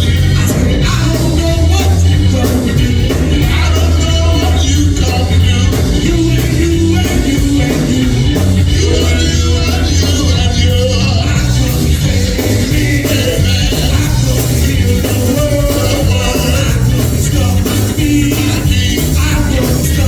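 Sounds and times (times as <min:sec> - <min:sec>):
drum beats: 0:00.0 - 0:20.0
heavy bass line: 0:00.0 - 0:20.0.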